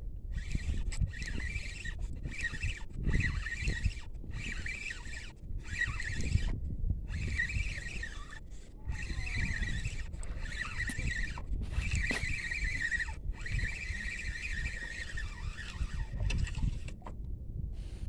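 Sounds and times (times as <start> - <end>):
fishing reel whirring: 0.3 - 17.1.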